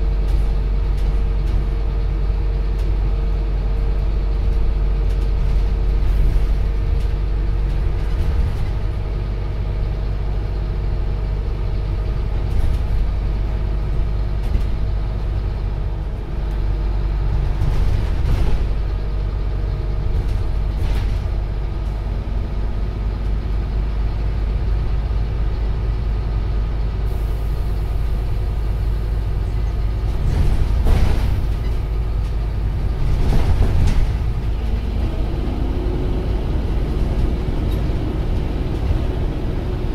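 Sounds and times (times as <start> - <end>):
bus engine rumble: 0.0 - 39.9
road noise: 0.0 - 39.9.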